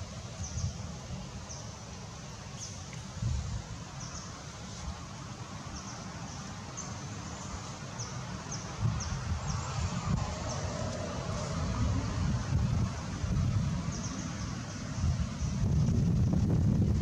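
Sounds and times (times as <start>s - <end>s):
wind rumbling on microphone: 0.0s - 1.7s, 2.6s - 17.0s.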